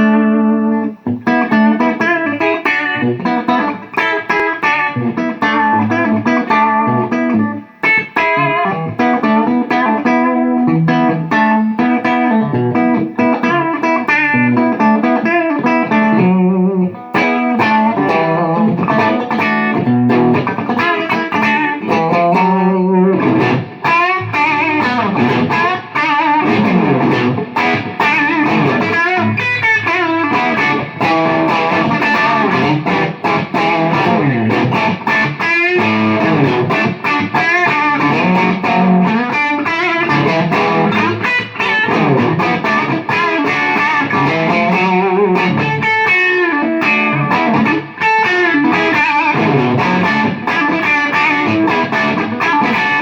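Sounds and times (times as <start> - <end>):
overdriven electric guitar: 0.0 - 53.0.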